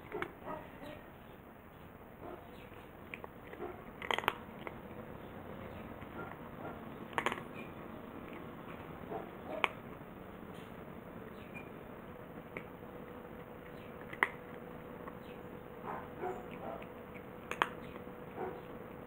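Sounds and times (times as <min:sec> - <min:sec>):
cat chewing food: 0:00.0 - 0:01.2, 0:01.8 - 0:19.0.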